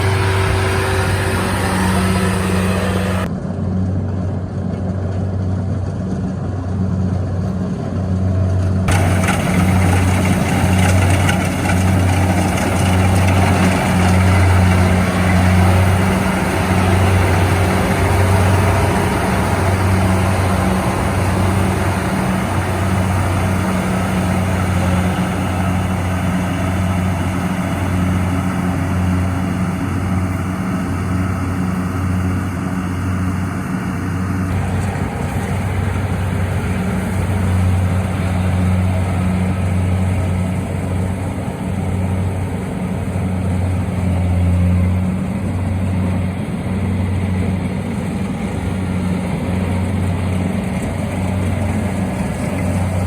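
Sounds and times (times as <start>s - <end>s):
harvester engine humming: 0.0s - 53.0s.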